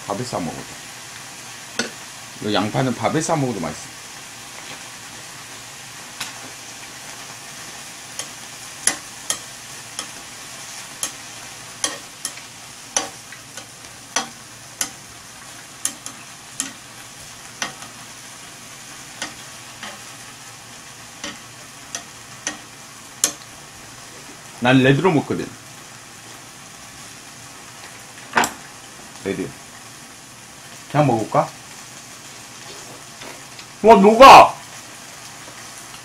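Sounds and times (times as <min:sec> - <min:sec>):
beef sizzling on a grill plate: 0:00.0 - 0:36.0.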